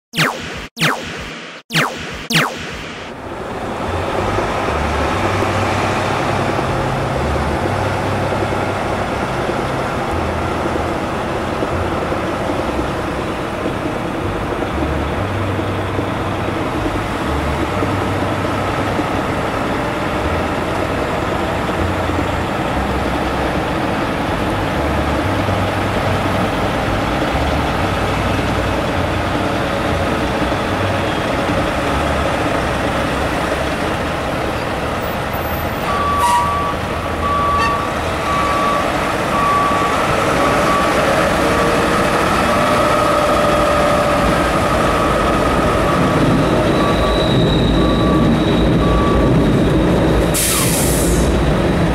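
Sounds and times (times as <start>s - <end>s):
truck diesel engine rumbling: 3.2s - 51.9s.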